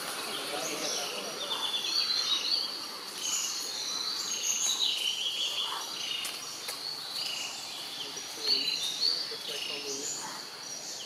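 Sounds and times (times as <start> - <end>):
faint steady hiss: 0.0 - 11.0
small birds chirping: 0.0 - 11.0.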